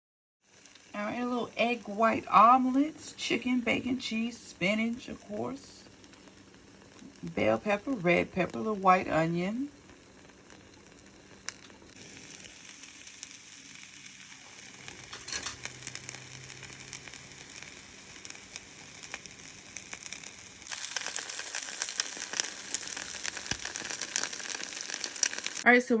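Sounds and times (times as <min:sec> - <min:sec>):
omelet sizzling in a pan: 0:00.4 - 0:26.0.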